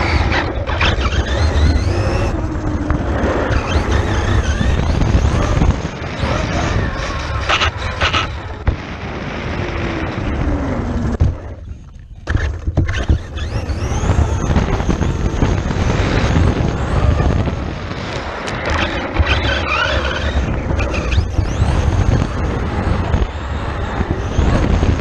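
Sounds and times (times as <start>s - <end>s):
electric rc truck motor whine: 0.0s - 25.0s
wind buffeting microphone: 0.0s - 25.0s.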